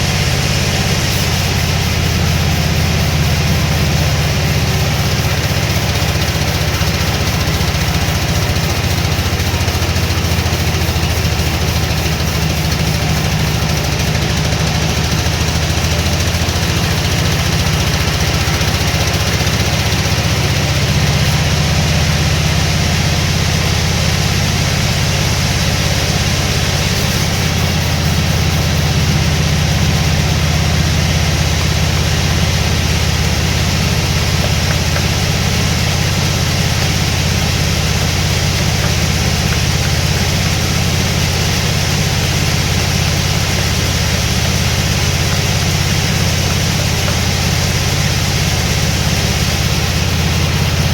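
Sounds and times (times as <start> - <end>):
machinery hiss: 0.0 - 50.9
sawmill machinery humming: 0.0 - 50.9.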